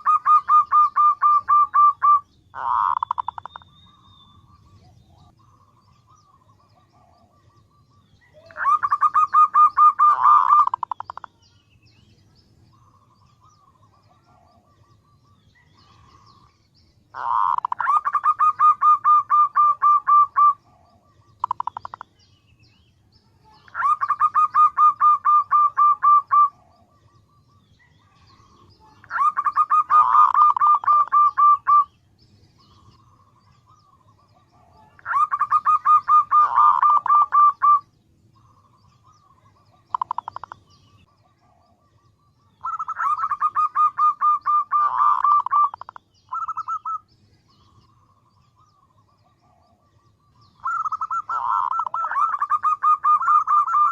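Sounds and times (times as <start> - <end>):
dove staccato calls: 0.0 - 7.6, 8.2 - 11.4, 17.1 - 22.2, 23.4 - 32.0, 32.6 - 41.8, 42.6 - 49.8, 50.4 - 53.9.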